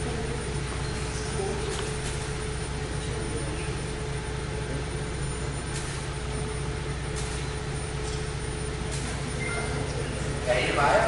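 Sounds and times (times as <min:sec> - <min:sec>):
steady roaring with hum: 0:00.0 - 0:11.0.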